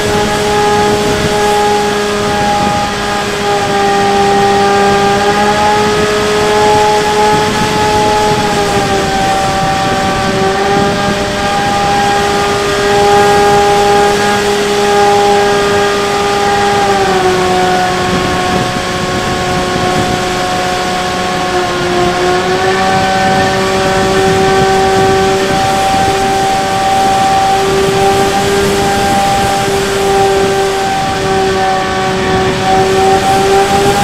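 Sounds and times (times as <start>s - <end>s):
electric motor and propeller whining: 0.0s - 34.0s
wind rush: 0.0s - 34.0s.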